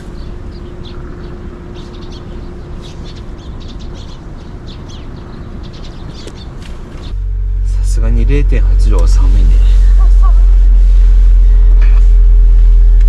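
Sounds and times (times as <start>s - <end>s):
birds chirping: 0.0s - 13.0s
low outdoor rumble: 0.0s - 13.0s.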